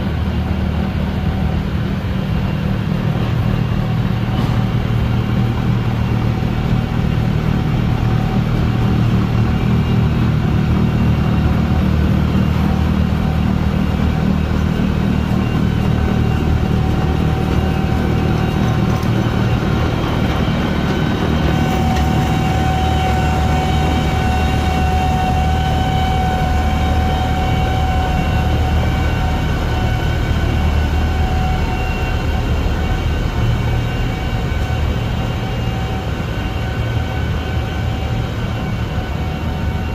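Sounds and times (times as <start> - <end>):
high machine whine: 0.0 - 39.9
low engine rumble: 0.0 - 39.9.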